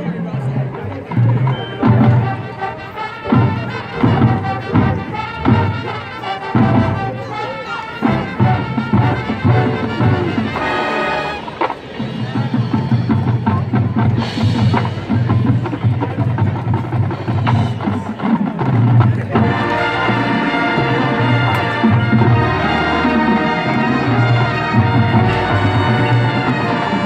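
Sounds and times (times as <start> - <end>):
drums and percussion: 0.0 - 27.0
winds and brass chords: 1.5 - 15.7, 19.2 - 27.0.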